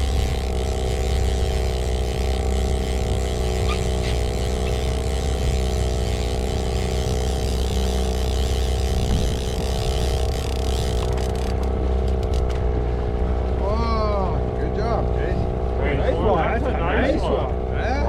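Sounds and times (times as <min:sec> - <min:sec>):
boat motor rumbling: 0:00.0 - 0:18.0.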